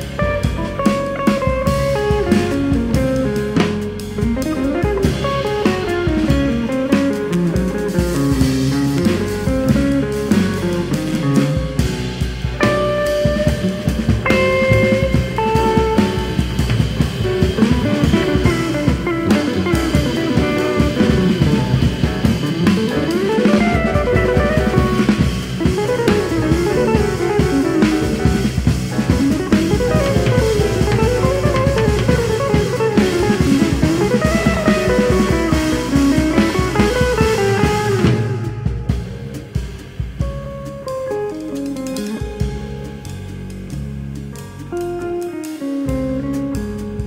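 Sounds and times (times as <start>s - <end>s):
jazz quartet playing: 0.0s - 47.0s.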